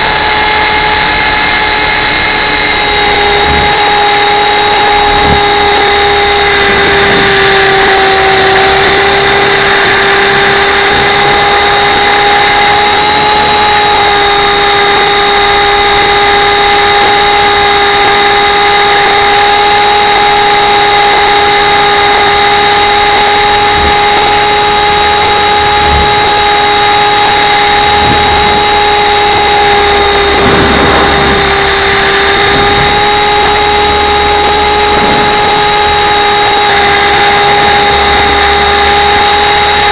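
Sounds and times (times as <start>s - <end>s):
rc helicopter rotors whining: 0.0s - 39.9s.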